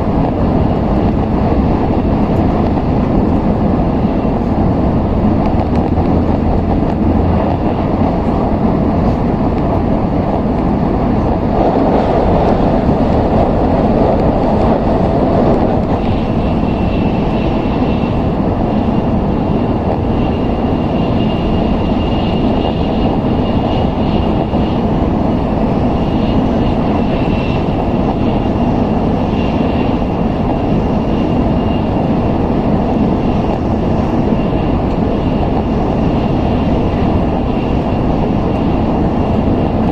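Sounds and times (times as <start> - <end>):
train wheels and rushing air: 0.0 - 39.9.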